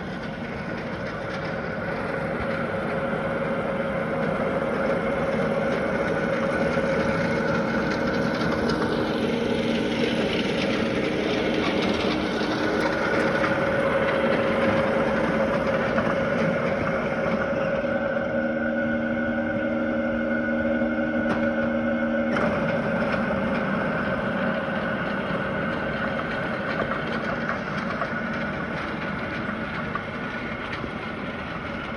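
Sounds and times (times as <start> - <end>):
lawn mower running: 0.0 - 31.9.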